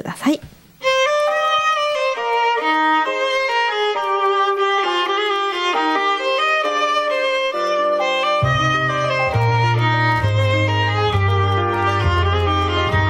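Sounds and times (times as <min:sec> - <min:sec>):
sustained background notes: 0:00.8 - 0:13.0
violin melody: 0:00.8 - 0:13.0.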